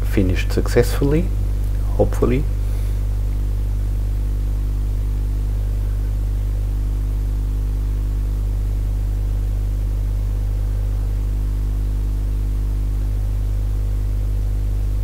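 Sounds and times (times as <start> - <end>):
electrical mains hum: 0.0 - 15.0
faint hiss: 0.0 - 15.0.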